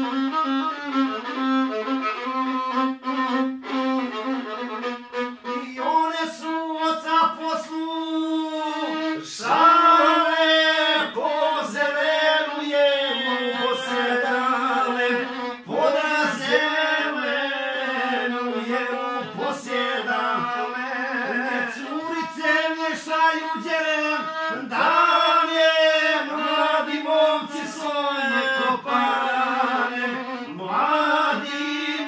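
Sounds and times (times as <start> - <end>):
violin: 0.0 - 32.0
man singing folk song: 5.4 - 32.0.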